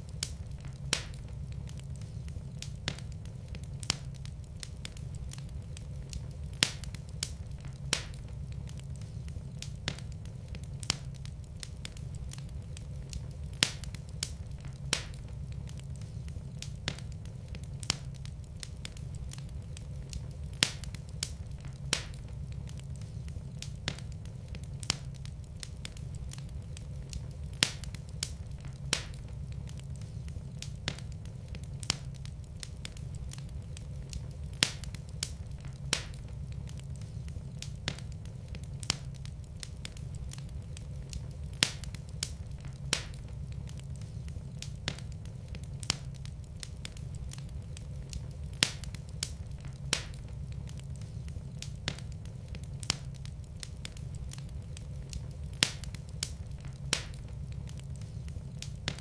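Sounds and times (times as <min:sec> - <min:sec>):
fire flames rumbling: 0:00.0 - 0:59.0
wood fire popping: 0:00.0 - 0:59.0.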